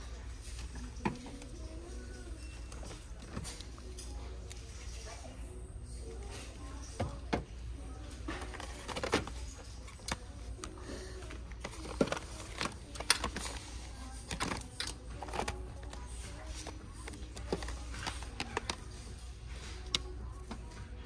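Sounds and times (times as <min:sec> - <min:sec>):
low store hum: 0:00.0 - 0:21.0.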